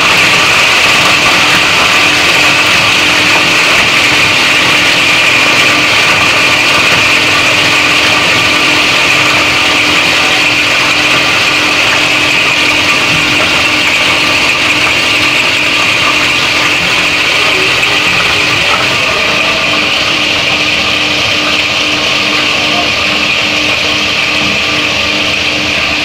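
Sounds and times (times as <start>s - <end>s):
plastic grinder running: 0.0s - 26.0s.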